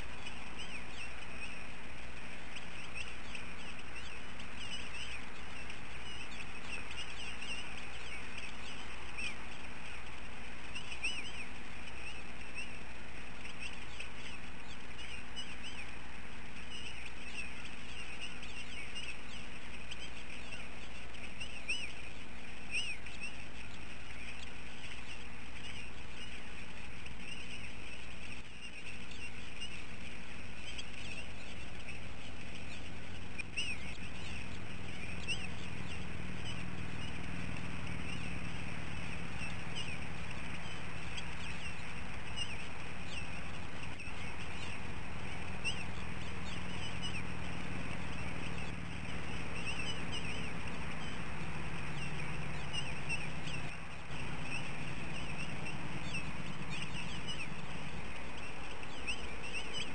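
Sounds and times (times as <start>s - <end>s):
high bird chirps: 0.0s - 59.9s
low hum: 0.0s - 59.9s.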